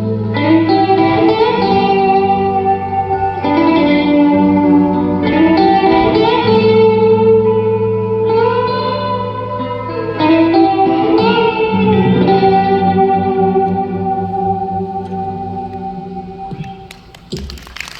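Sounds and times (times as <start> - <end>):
electric guitars with reverb: 0.0 - 17.9.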